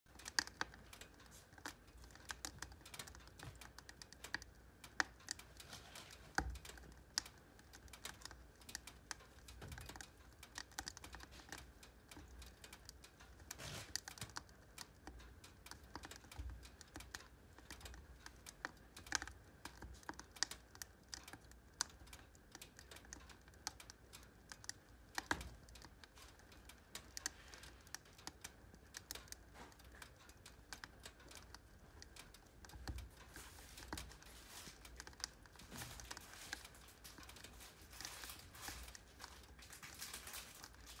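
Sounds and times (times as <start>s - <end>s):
logs crackling in a woodstove: 0.1s - 41.0s.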